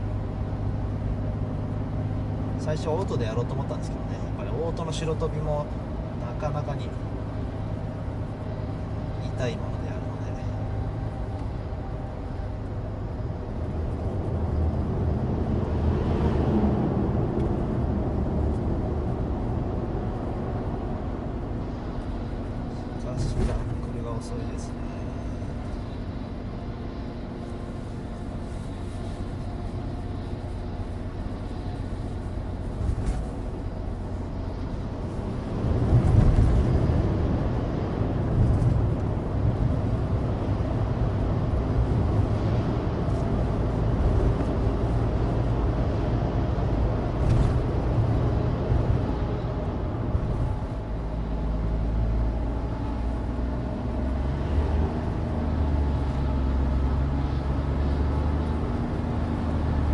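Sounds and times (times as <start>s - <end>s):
tyre and road noise: 0.0s - 59.9s.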